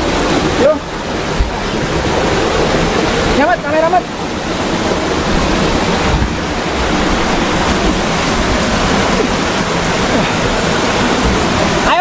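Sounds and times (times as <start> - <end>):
rushing water roar: 0.0 - 12.0.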